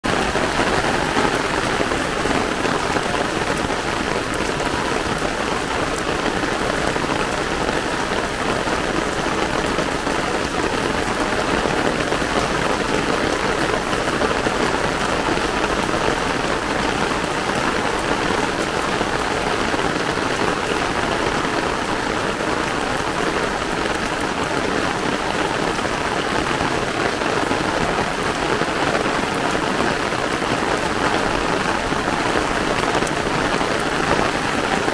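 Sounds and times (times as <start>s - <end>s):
heavy rain on wet pavement: 0.0s - 34.9s.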